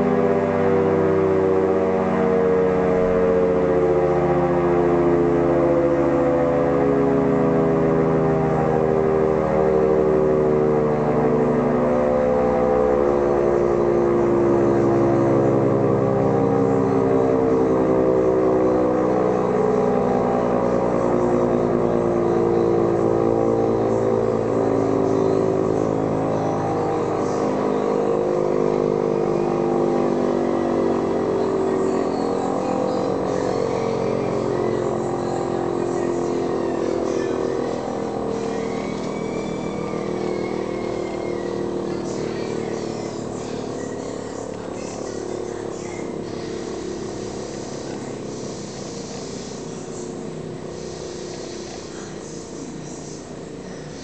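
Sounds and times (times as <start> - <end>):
air raid siren wailing: 0.0 - 54.0.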